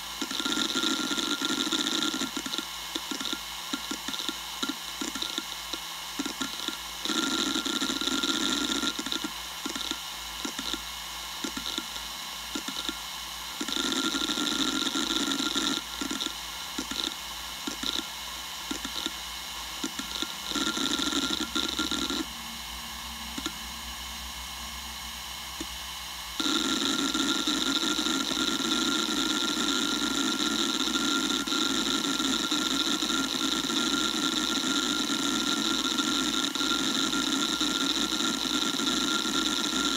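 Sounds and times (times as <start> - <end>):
hard drive seek noise: 0.0 - 39.9.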